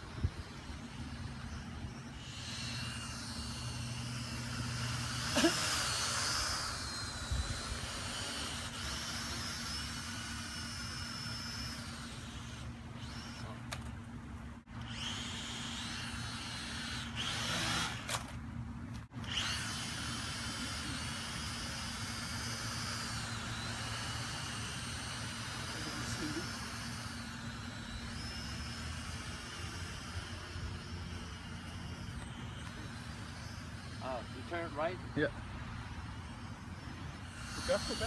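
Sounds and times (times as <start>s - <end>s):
quadcopter propellers whining: 0.0s - 38.0s.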